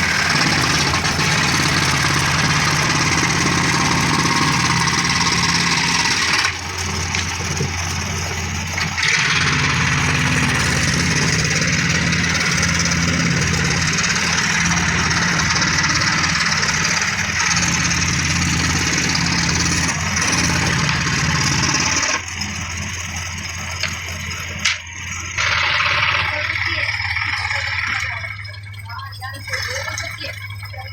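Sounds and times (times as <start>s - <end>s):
power tool cutting wood: 0.0s - 28.7s.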